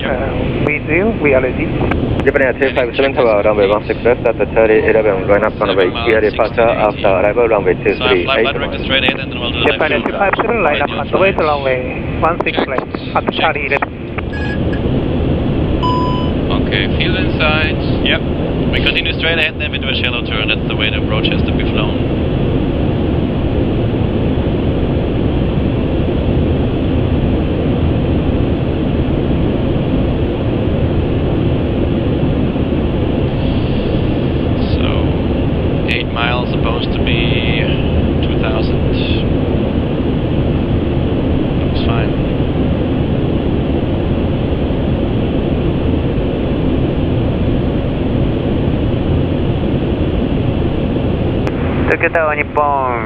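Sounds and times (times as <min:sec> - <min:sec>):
cockpit airflow and engine rush: 0:00.0 - 0:53.0.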